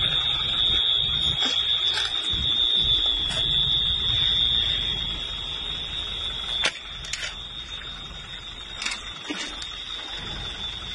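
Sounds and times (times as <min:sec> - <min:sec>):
high-pitched electronic alarm tone: 0:00.0 - 0:10.9
low rumbling background noise: 0:00.0 - 0:10.9.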